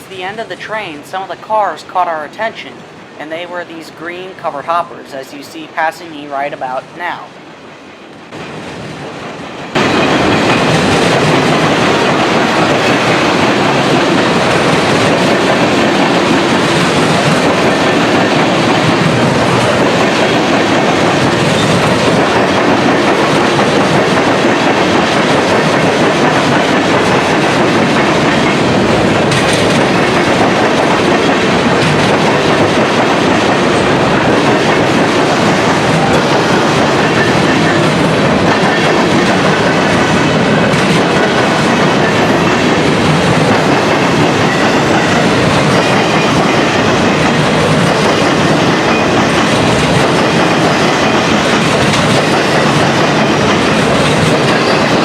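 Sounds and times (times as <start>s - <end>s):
train wheels clattering on track: 8.1s - 55.0s.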